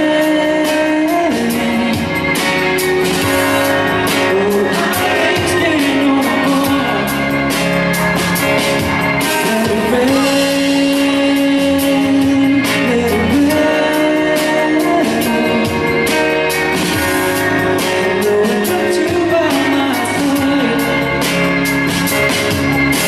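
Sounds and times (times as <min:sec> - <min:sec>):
man singing a pop ballad: 0:00.0 - 0:08.6, 0:09.2 - 0:21.6
instrumental backing: 0:00.0 - 0:23.0.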